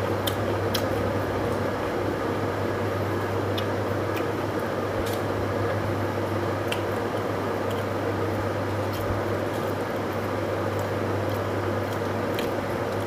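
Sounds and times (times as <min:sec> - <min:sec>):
fingers clicking and squelching food: 0:00.0 - 0:01.7, 0:03.4 - 0:13.0
low hum and hiss: 0:00.0 - 0:13.0.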